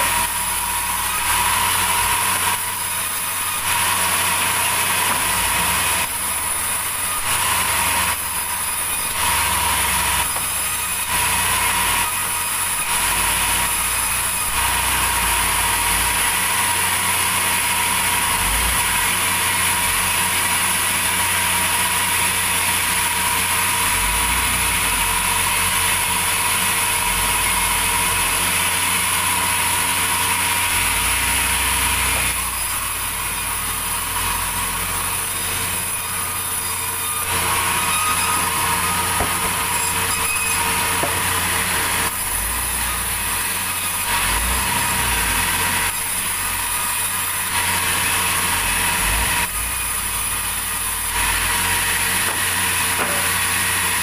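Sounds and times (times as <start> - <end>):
sawmill machinery hiss and whine: 0.0 - 54.0.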